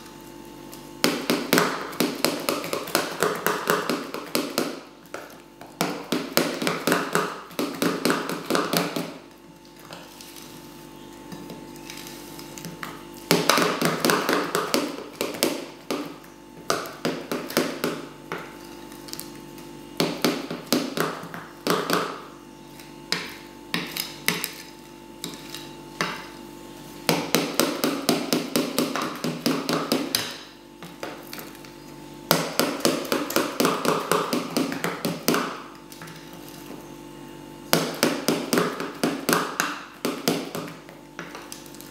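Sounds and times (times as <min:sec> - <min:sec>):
utensil beating batter in bowl: 0:00.7 - 0:36.9, 0:37.6 - 0:41.9.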